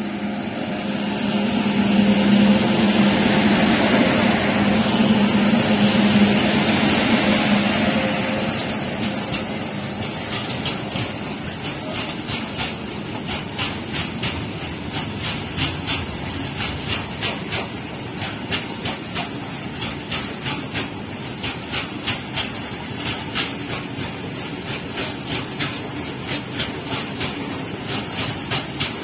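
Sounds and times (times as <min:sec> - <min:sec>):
wheels rumbling on rails: 0:00.0 - 0:29.0.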